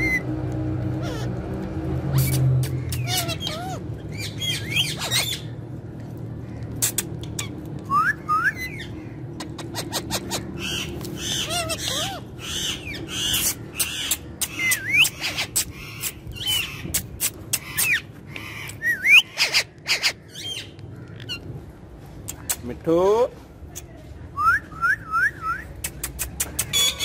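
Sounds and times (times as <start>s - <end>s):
parakeets chirping and squawking: 0.0s - 7.8s, 8.5s - 22.6s.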